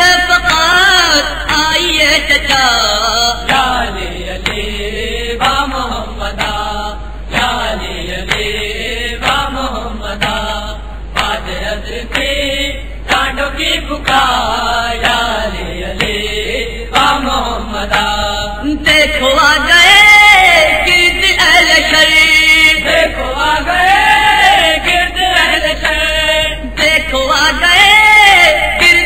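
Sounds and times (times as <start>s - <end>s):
voices chanting a lament: 0.0s - 29.0s.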